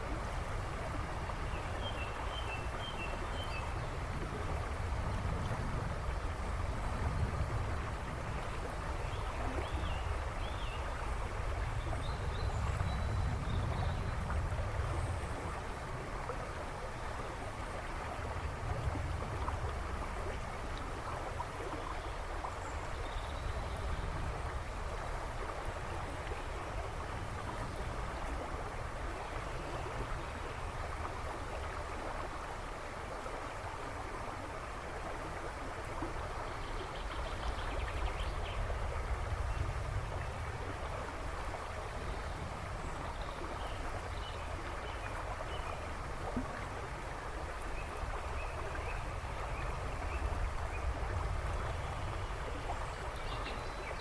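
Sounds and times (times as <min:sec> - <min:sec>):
river rushing and babbling: 0:00.0 - 0:54.0.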